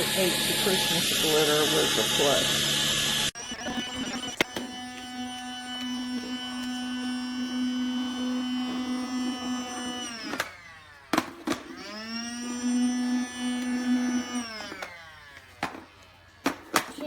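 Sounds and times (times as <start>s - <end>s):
stick vacuum whining: 0.0s - 17.0s.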